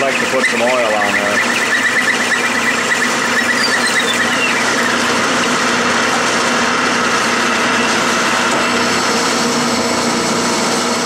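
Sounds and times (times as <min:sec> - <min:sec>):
lathe cutting metal bar: 0:00.0 - 0:11.0.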